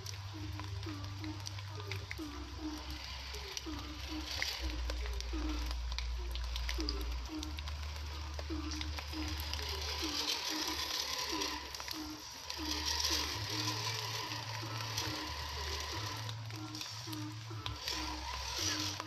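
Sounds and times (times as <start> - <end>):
toy truck motor ratcheting whir: 1.8 - 6.0, 6.6 - 19.0.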